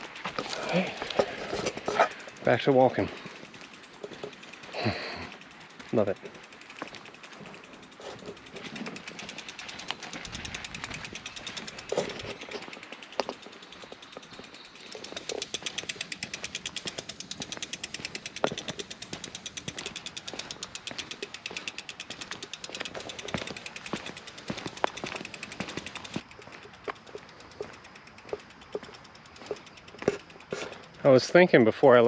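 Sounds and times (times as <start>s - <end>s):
bike freewheel clicking: 0.0s - 32.0s
footsteps and bike knocks: 0.0s - 32.0s.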